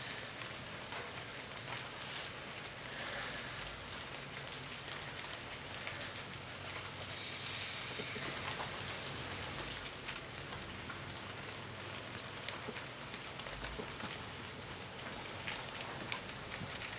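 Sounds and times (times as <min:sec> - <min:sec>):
raindrops ticking close: 0:00.0 - 0:16.9
steady rain falling: 0:00.0 - 0:16.9.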